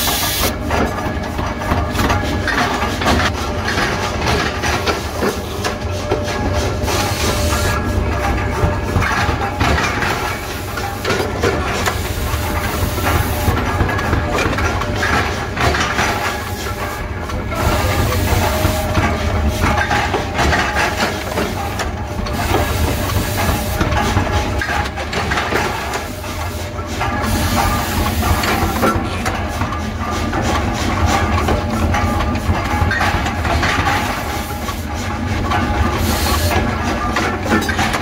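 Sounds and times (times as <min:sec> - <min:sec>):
forging press hum and hiss: 0:00.0 - 0:38.0
metal clanks and knocks: 0:00.0 - 0:38.0.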